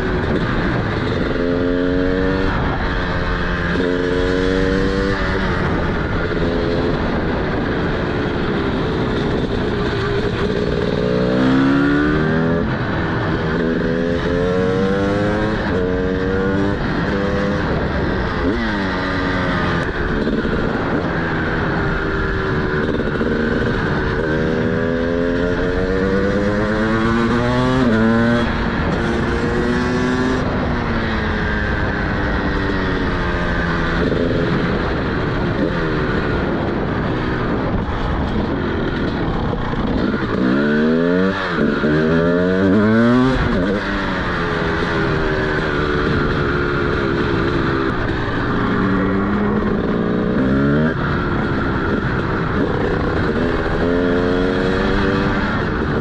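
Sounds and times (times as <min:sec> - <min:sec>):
motorcycle accelerating through gears: 0:00.0 - 0:56.0.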